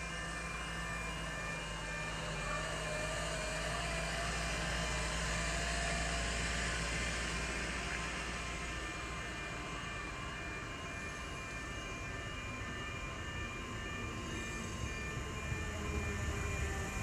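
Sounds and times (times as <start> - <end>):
faint wavering whine: 0.0 - 17.0.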